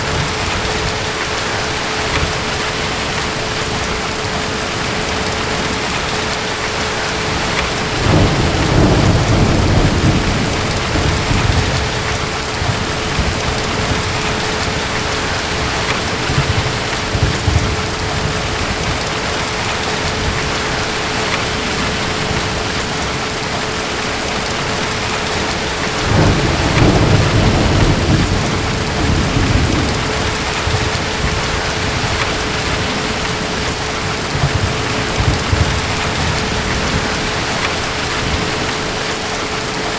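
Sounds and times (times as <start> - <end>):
distant thunder rumbling: 0.0 - 39.3
heavy rain: 0.0 - 39.9.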